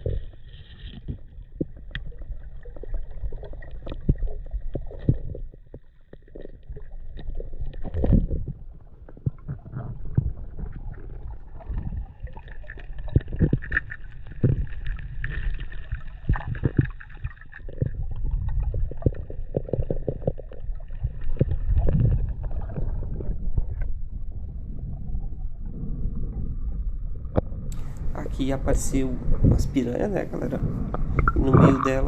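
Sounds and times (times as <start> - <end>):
underwater knocks and clicks: 0.0 - 24.5, 26.2 - 28.1, 29.2 - 32.0
muffled underwater rumble: 0.0 - 32.0.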